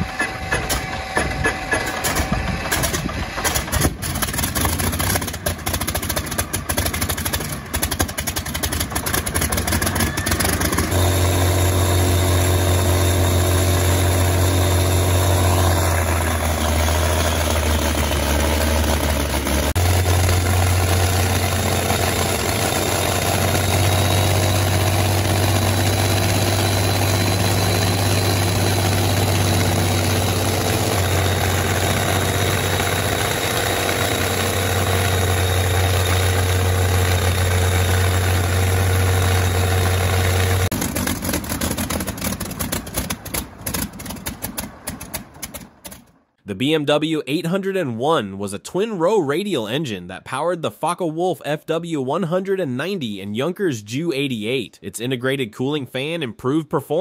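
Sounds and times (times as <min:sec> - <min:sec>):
aero engine starting and idling: 0:00.0 - 0:46.5.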